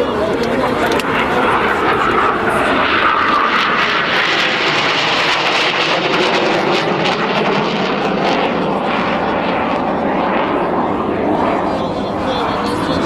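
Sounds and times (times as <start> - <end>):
jet aircraft engine noise: 0.0 - 13.0.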